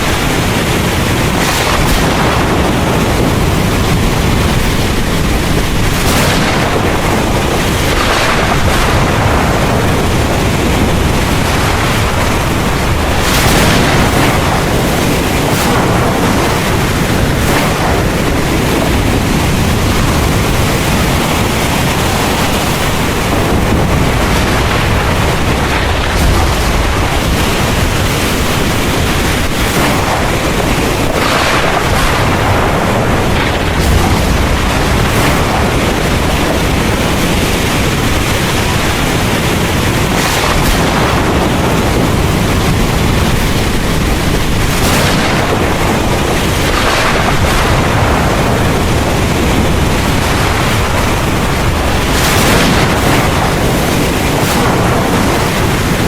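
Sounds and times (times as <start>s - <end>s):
heavy rain pouring: 0.0s - 56.0s
thunder rumbling: 0.0s - 56.0s.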